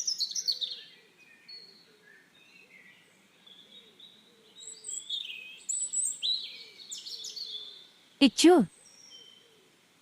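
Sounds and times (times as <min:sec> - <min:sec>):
soft birdsong chirps: 0:00.0 - 0:10.0.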